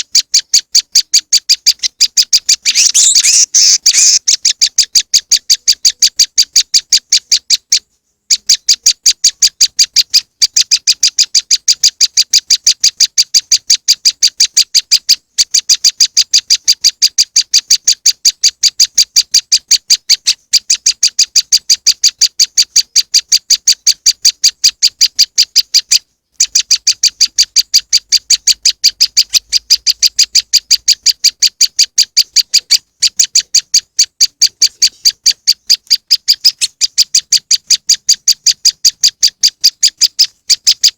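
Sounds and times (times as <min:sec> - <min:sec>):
rapid high bird chirps: 0:00.0 - 0:40.9.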